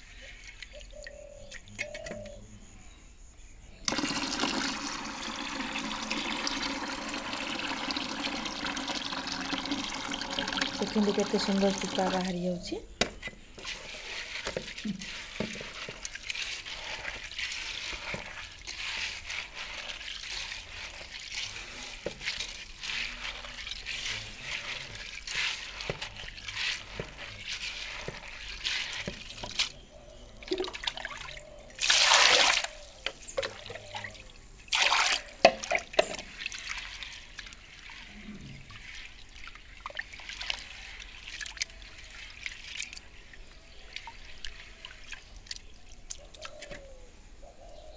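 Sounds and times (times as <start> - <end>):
water pouring into pot: 3.9 - 12.4, 13.6 - 29.8, 30.4 - 45.4
hands swishing lentils in water: 7.7 - 46.9.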